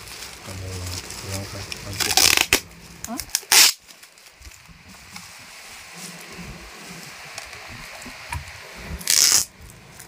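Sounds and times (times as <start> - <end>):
background hiss: 0.0 - 10.0
bubble wrap rustling: 0.0 - 10.0.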